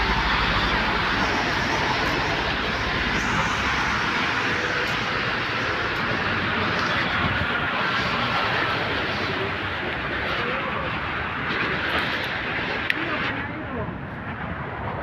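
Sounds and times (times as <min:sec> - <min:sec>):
roar of road traffic: 0:00.0 - 0:15.0.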